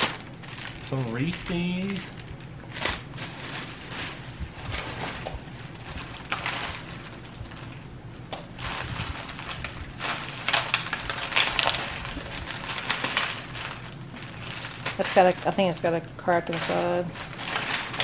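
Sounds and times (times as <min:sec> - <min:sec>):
plastic wrappers crinkling: 0:00.0 - 0:18.0.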